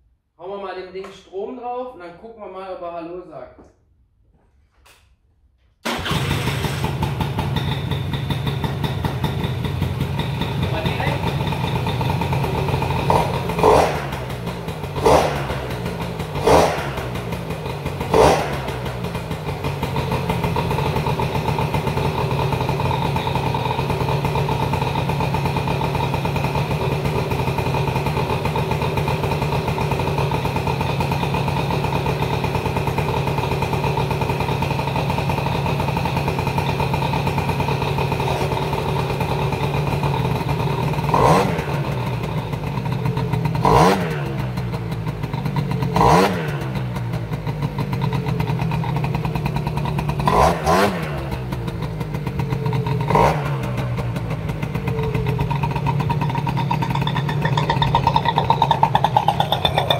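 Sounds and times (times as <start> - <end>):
scooter engine idling: 5.8 - 59.9
scooter throttle blips: 5.8 - 59.9.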